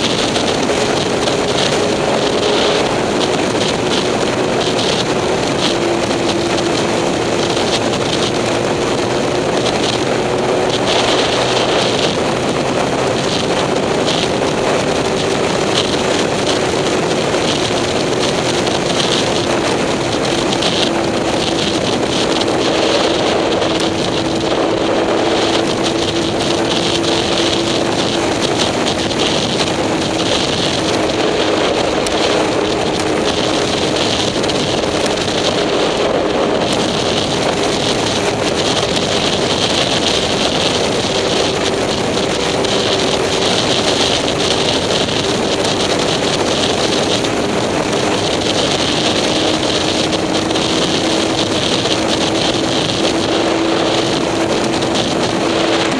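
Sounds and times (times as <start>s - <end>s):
vehicle engine droning: 0.0s - 55.9s
wind rushing over microphone: 0.0s - 55.9s.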